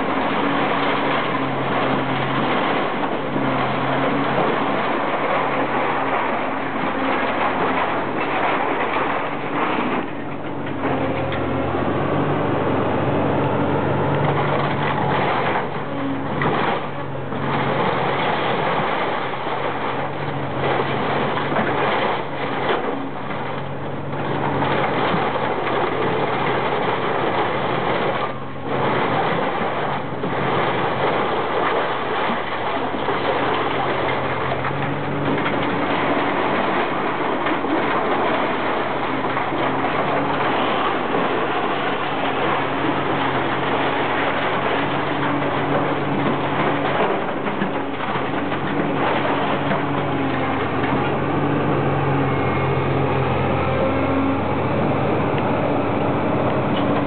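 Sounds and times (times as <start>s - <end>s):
excavator diesel engine: 0.0s - 57.0s
scrap metal clattering and crunching: 0.0s - 57.0s.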